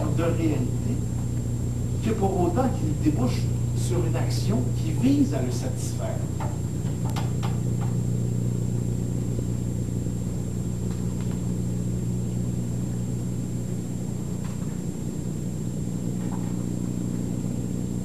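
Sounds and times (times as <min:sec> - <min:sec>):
faint high-pitched whine: 0:00.0 - 0:18.0
low machine hum: 0:00.0 - 0:18.0.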